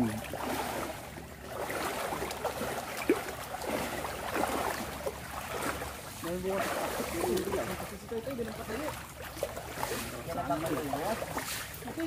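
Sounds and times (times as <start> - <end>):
river water flowing and splashing: 0.0 - 12.0.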